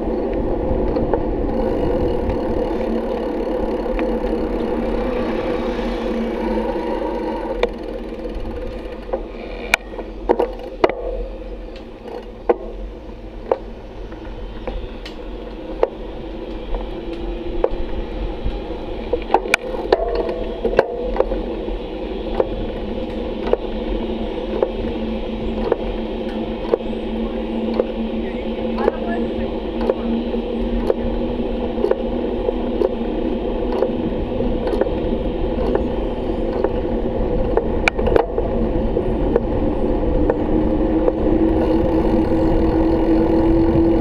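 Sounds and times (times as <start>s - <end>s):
bicycle clicks and rattles: 0.0s - 44.0s
bicycle rolling on asphalt: 0.0s - 44.0s.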